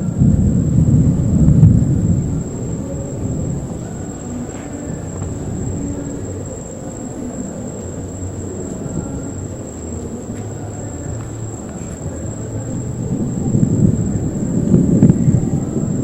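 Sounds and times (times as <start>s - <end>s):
distant thunder rumbling: 0.0s - 16.0s
insects droning: 0.0s - 16.0s.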